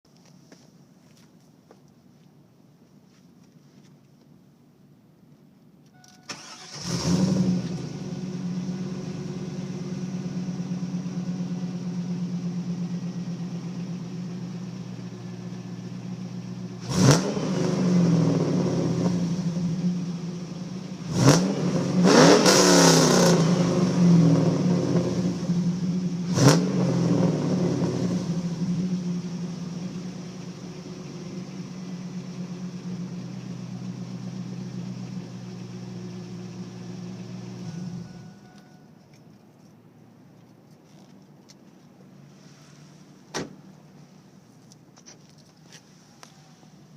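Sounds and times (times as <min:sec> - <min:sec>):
car engine starting and idling: 0:05.8 - 0:46.9.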